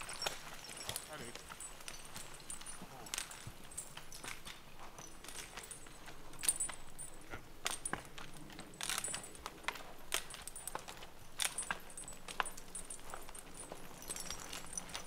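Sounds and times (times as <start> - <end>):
harness chain clinking: 0.0 - 15.0.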